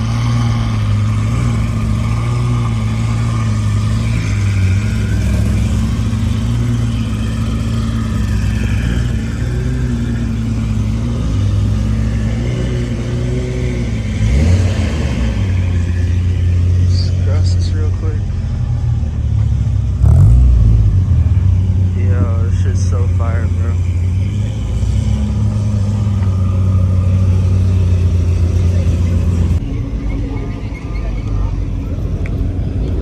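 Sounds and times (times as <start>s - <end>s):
car engine humming: 0.0s - 33.0s
car engine revving: 0.0s - 33.0s.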